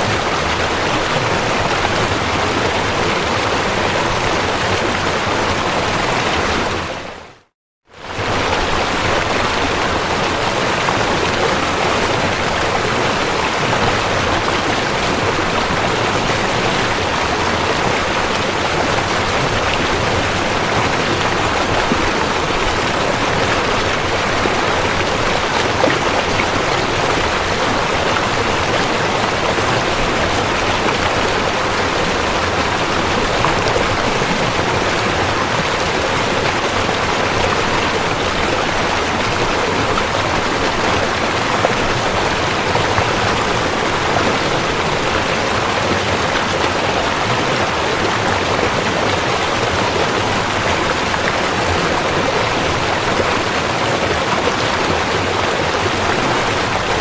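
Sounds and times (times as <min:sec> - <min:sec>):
rushing river water: 0:00.0 - 0:57.0.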